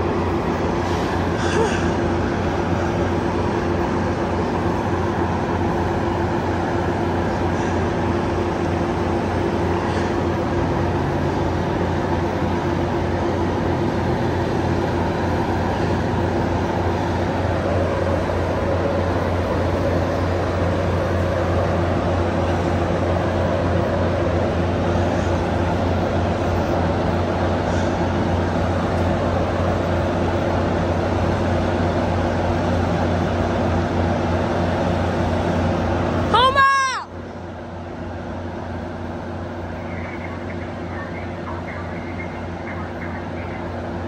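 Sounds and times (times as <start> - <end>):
train running: 0.0 - 44.0.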